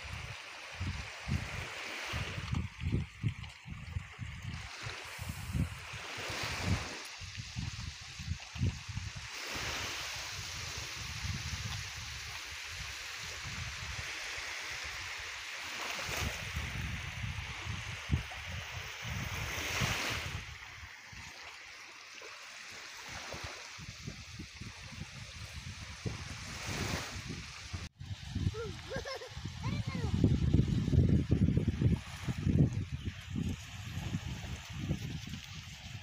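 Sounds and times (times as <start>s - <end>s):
wind buffeting microphone: 0.0s - 9.3s, 10.3s - 12.8s, 16.1s - 20.9s, 23.8s - 36.0s
small waves on shore: 0.0s - 36.0s
wind hiss: 3.9s - 36.0s.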